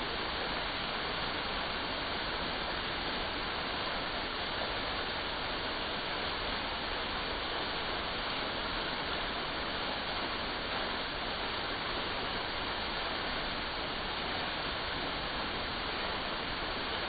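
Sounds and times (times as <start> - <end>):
waterfall pouring into pond: 0.0 - 17.0.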